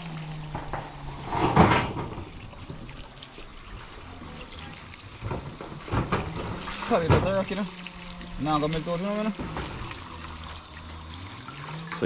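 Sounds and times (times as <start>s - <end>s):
hose water splashing in metal tray: 0.0s - 12.0s.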